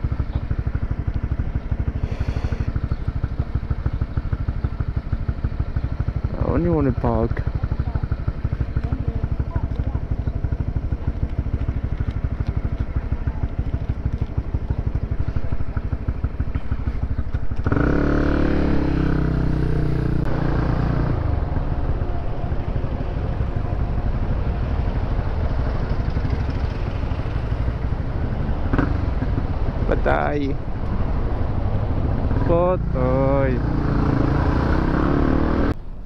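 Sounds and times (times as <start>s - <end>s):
loud engine drone: 0.0s - 36.0s
motorcycle engine running at low revs: 0.0s - 36.0s.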